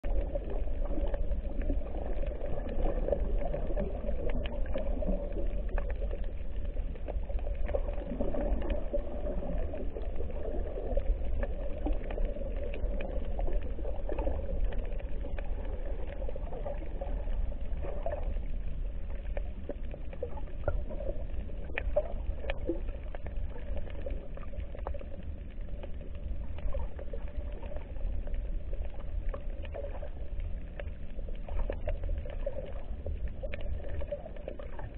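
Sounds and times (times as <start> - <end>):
muffled underwater rumble: 0.0 - 34.9
faint clicks: 0.1 - 34.9.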